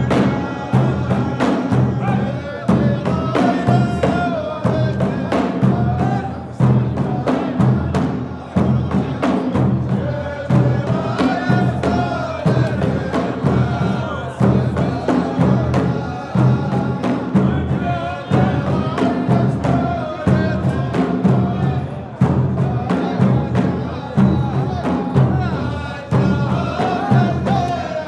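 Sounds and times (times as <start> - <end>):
drums beating: 0.0 - 28.0
men singing a chanted melody: 0.0 - 28.0.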